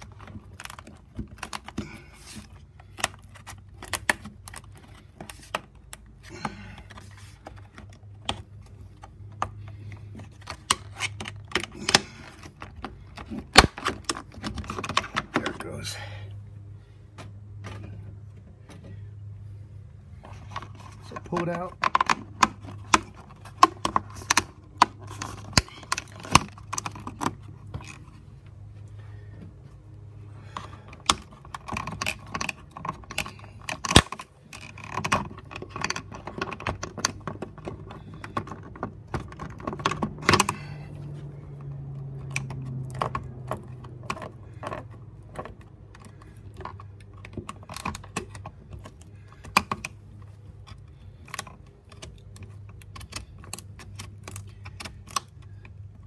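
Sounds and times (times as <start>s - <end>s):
plastic window liner clicking and rattling: 0.0s - 15.8s, 17.1s - 56.0s.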